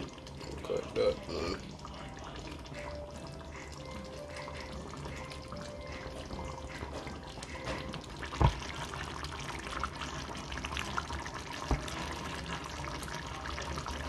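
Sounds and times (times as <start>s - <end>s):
sauce bubbling in a pot: 0.0s - 14.0s.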